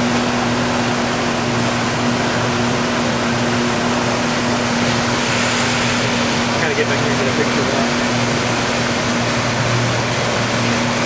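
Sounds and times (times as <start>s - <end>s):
motorboat engine humming: 0.0s - 11.0s
rush of wind and water: 0.0s - 11.0s.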